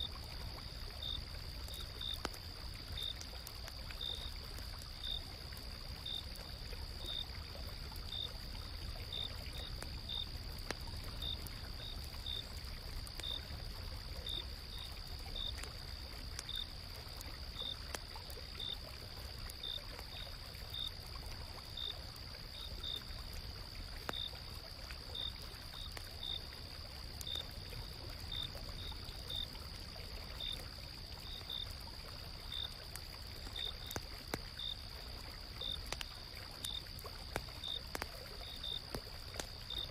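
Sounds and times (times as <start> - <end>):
campfire crackling: 0.0 - 39.9
cricket chirps: 0.0 - 39.9
insects trilling: 0.0 - 39.9
stream running: 0.0 - 39.9.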